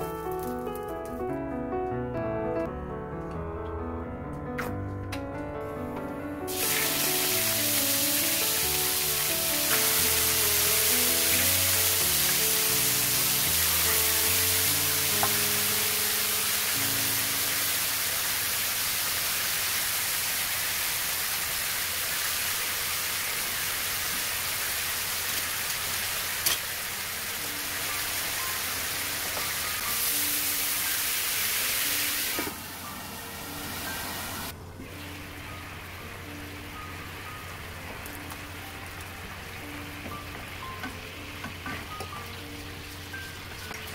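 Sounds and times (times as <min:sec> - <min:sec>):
soft piano music: 0:00.0 - 0:19.9, 0:22.7 - 0:43.9
chicken sizzling in hot oil: 0:06.5 - 0:43.9.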